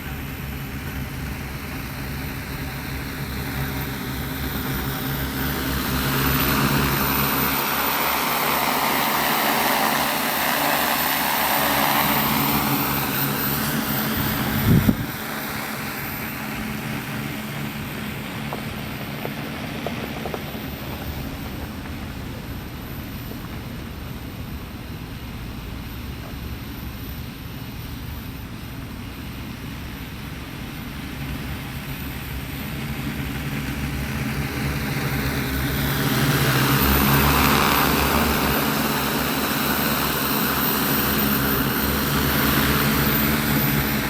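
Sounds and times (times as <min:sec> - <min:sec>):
drone rotors buzzing: 0:00.0 - 0:44.0.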